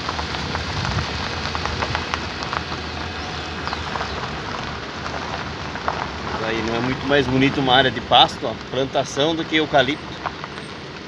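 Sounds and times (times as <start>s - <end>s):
low hum: 0.0s - 9.0s
small crackles: 0.0s - 11.0s
wind and road noise: 0.0s - 11.0s.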